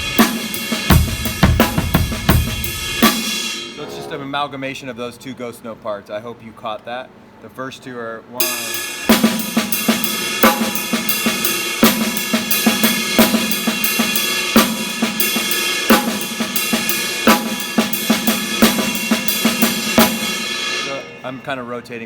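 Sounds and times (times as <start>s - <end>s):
cymbal wash: 0.0s - 4.3s, 8.4s - 22.0s.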